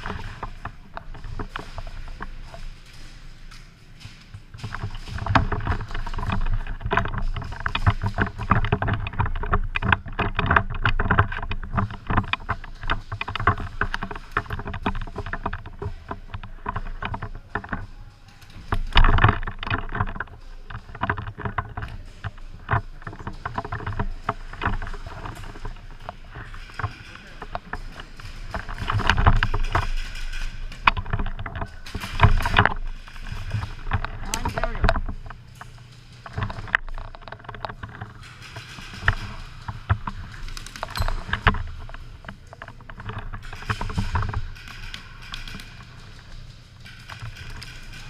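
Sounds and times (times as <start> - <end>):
rustling and crackling: 0.0 - 48.0.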